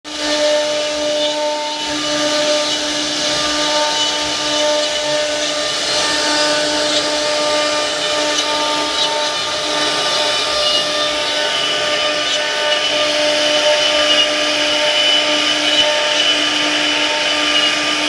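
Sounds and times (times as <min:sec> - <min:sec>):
router spindle whining: 0:00.1 - 0:18.0.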